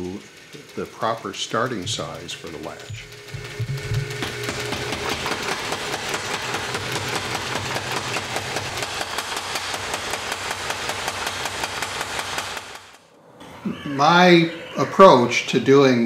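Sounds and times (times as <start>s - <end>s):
power hammer pounding iron: 0.0s - 13.0s.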